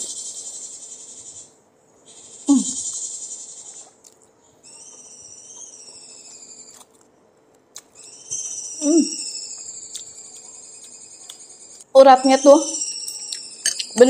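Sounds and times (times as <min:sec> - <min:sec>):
insect-like chirring: 0:00.0 - 0:01.5, 0:02.1 - 0:04.0, 0:04.7 - 0:06.9, 0:07.8 - 0:14.0.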